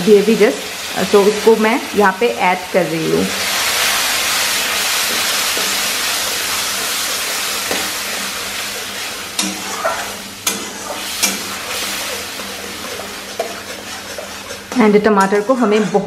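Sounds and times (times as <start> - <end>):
puree sizzling in hot oil: 0.0 - 15.6.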